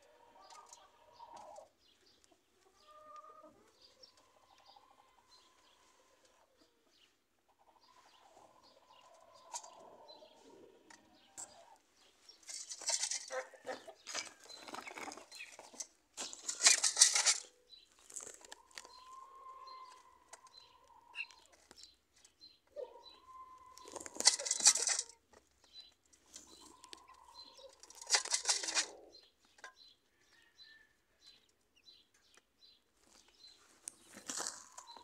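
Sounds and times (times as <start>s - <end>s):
chickens calling: 0.0s - 35.0s.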